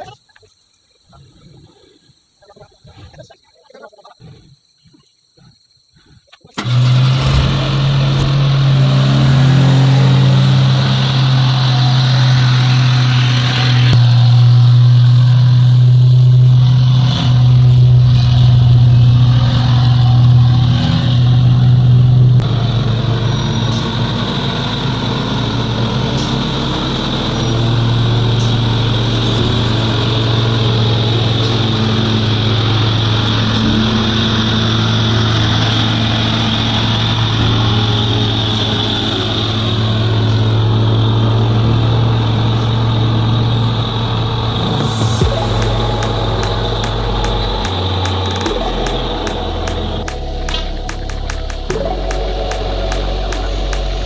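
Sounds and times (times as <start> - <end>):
truck diesel engine under load: 6.6 - 54.0.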